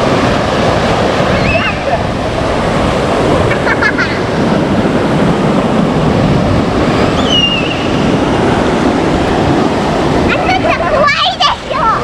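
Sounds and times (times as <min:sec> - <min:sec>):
rough sea surf: 0:00.0 - 0:12.0
wind buffeting microphone: 0:00.0 - 0:12.0.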